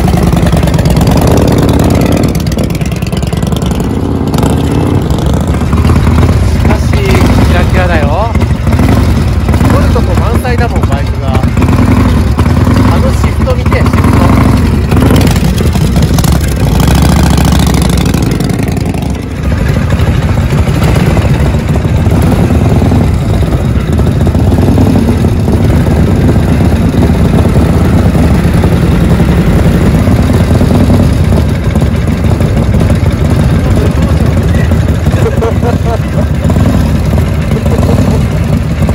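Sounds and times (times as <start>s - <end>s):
motorcycle engines idling loudly: 0.0s - 38.9s.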